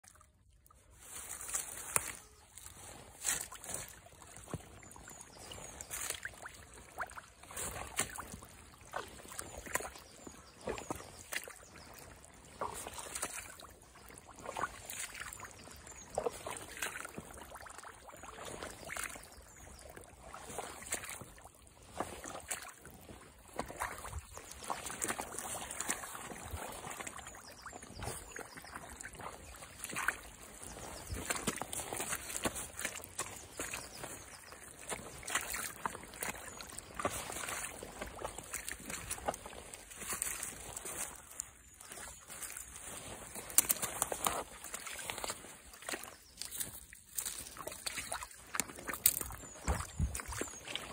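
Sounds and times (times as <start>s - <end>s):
boots squelching through mud: 0.0s - 50.9s.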